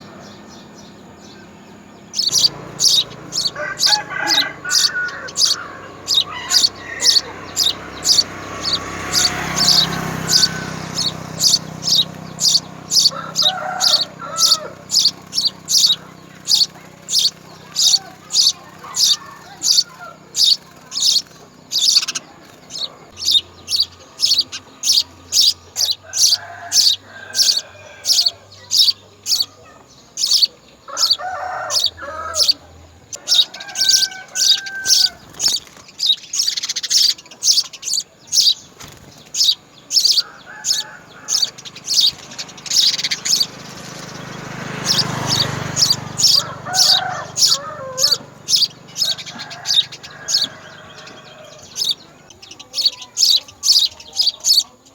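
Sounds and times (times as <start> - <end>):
sparrow chirping: 0.0 - 54.9.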